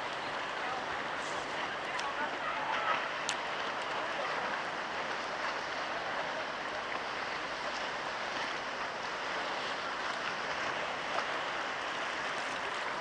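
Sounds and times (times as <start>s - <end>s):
storm wind and water hissing: 0.0s - 13.0s.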